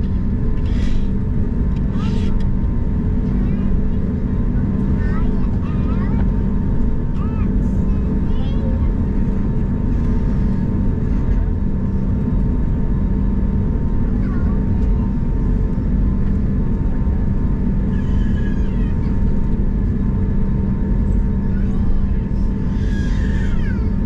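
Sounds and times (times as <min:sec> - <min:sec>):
jet engines rumbling in cabin: 0:00.0 - 0:24.0.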